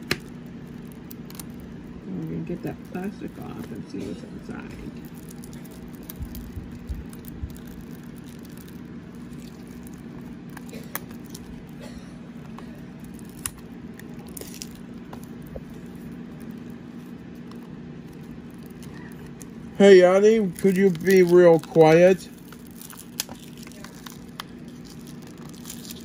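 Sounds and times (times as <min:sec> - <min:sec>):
low hum: 0:00.0 - 0:26.0
plastic rustling: 0:00.0 - 0:26.0
plastic wrap clicking and crinkling: 0:00.0 - 0:26.0.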